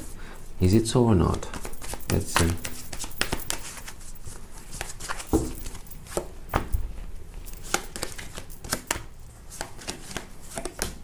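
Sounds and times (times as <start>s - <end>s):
cards being shuffled: 1.3s - 11.0s.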